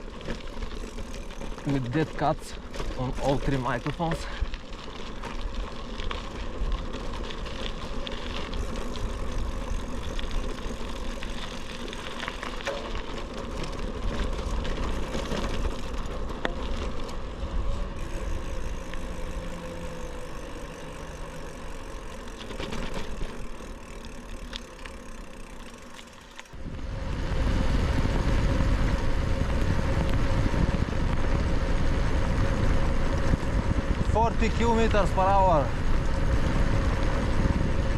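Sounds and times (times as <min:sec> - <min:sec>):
bicycle tyre and road rumble: 0:00.0 - 0:37.9
wind: 0:00.0 - 0:37.9.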